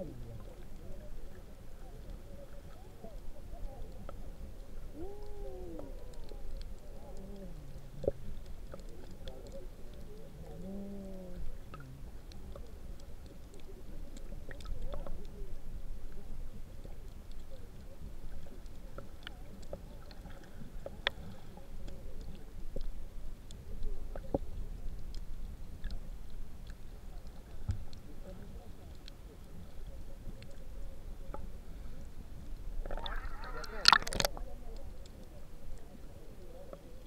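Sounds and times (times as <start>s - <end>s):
underwater rumble of moving water: 0.0s - 37.0s
sharp clicks and crackles: 1.9s - 31.6s, 32.4s - 35.9s.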